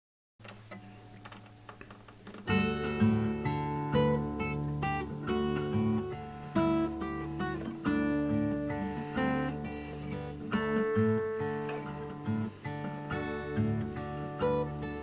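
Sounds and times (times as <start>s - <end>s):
acoustic guitar strumming: 0.7s - 15.0s.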